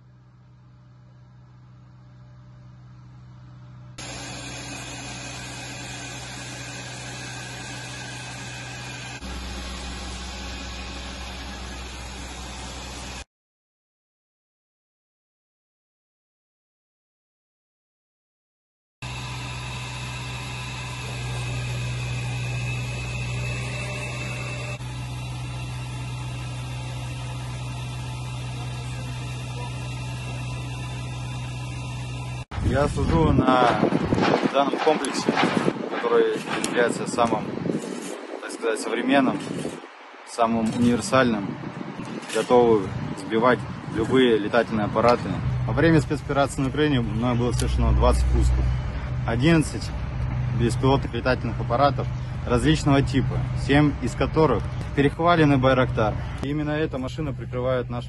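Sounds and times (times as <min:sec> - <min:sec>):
vehicle engine running: 0:00.0 - 0:13.2, 0:19.0 - 0:35.7, 0:40.7 - 0:58.0
low hum: 0:00.0 - 0:13.3, 0:19.0 - 0:38.5, 0:39.4 - 0:58.0.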